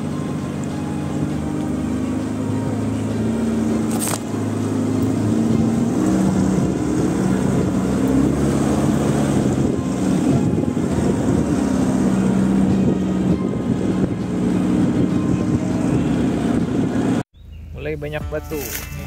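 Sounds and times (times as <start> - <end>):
off-road vehicle engine pulling: 0.0 - 19.0.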